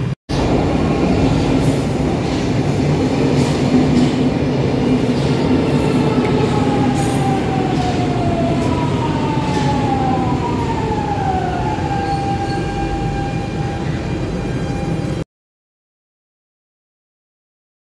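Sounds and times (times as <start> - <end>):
electric train rumble: 0.0 - 15.2.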